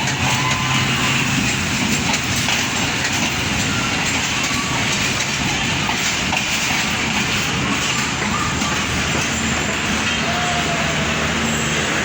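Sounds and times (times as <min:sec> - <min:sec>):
diesel locomotive running: 0:00.0 - 0:12.0
train wheels rumbling on rails: 0:00.0 - 0:12.0.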